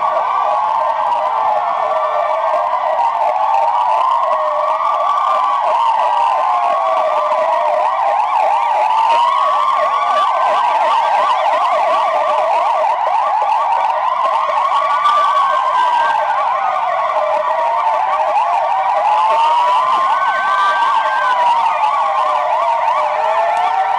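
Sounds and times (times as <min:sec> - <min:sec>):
wailing police sirens: 0:00.0 - 0:23.9
yelping sirens: 0:00.0 - 0:23.9.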